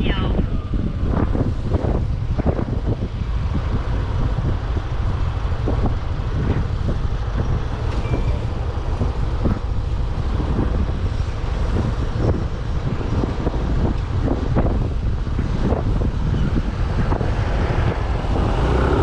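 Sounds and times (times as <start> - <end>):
road noise: 0.0 - 19.0
wind rumble on microphone: 0.0 - 19.0.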